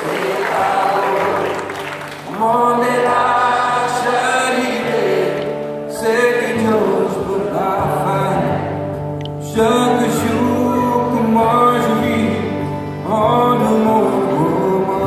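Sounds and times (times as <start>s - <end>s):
acoustic guitar: 0.0s - 15.0s
man singing: 0.0s - 15.0s.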